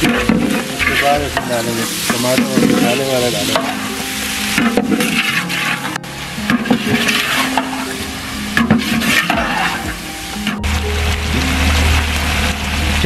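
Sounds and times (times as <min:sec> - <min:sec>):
chicken sizzling in hot fat: 0:00.0 - 0:13.0
metal ladle scraping and stirring: 0:00.1 - 0:10.6.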